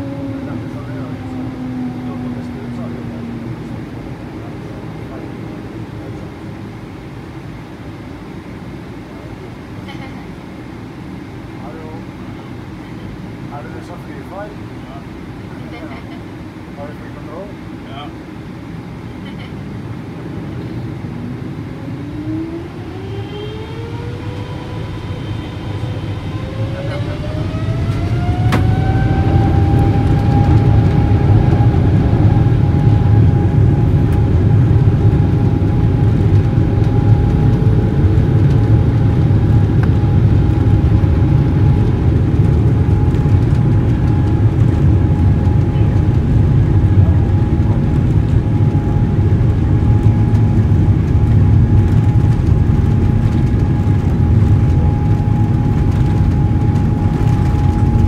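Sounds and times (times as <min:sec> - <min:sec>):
jet engine loud low roar: 0:00.0 - 0:58.0
jet engine whine: 0:00.0 - 0:58.0.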